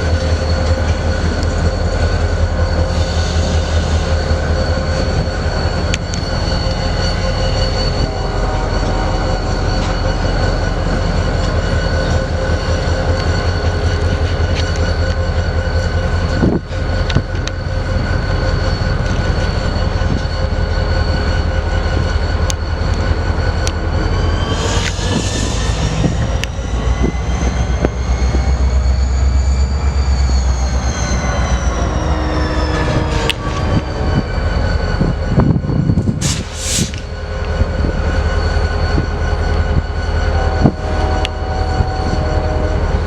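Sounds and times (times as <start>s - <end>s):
diesel locomotive rumble: 0.0s - 43.0s
whining tones: 0.0s - 43.0s.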